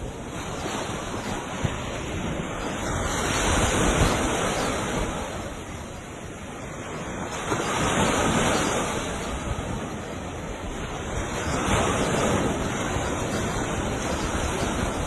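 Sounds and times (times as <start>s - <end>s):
ocean waves breaking on beach: 0.0s - 15.0s
wind buffeting microphone: 0.0s - 15.0s.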